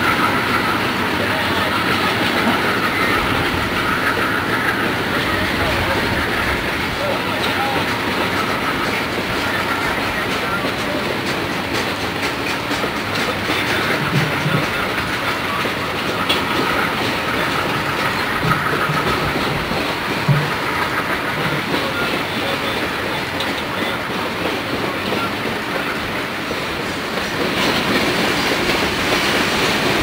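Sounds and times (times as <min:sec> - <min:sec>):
train wheels clicking over rail joints: 0:00.0 - 0:30.0.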